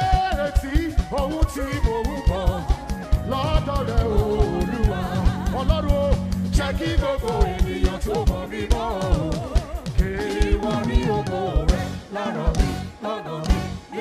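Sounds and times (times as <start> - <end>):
keyboard: 0.0 - 14.0
person singing: 0.0 - 14.0
steady drum beat: 0.0 - 14.0.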